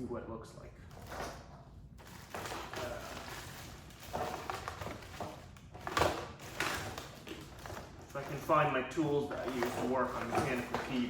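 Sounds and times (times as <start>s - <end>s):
rustling: 0.8s - 11.0s.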